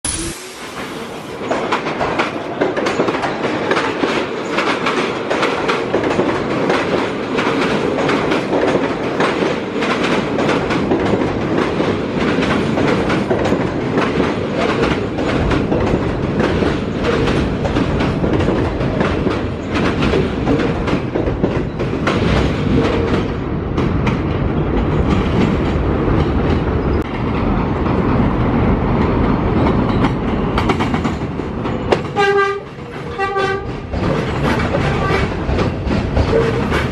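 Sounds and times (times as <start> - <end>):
subway train running past: 0.1 - 36.9.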